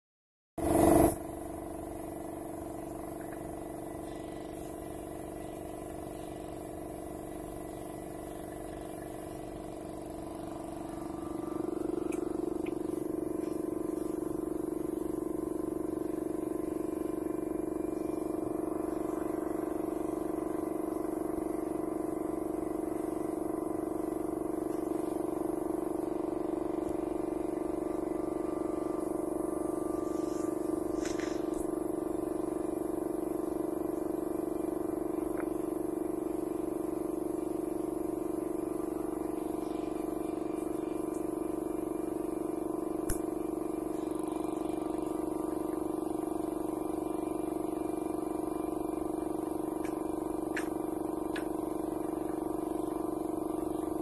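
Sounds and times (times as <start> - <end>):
motor hum: 0.6 - 54.0.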